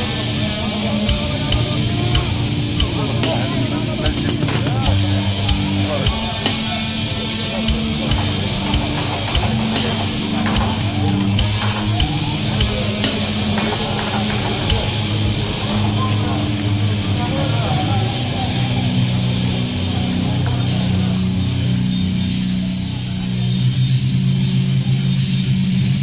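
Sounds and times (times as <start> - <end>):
distorted guitar and bass riff: 0.0 - 26.0
drum kit: 0.0 - 26.0.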